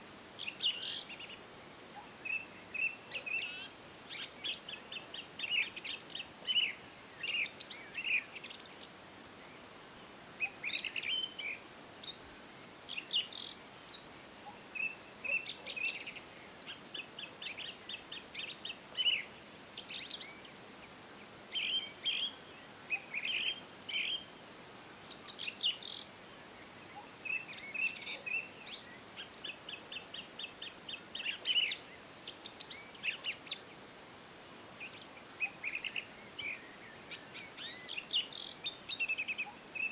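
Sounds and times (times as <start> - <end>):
faint steady hiss: 0.0 - 39.9
songbirds chirping: 0.0 - 39.9.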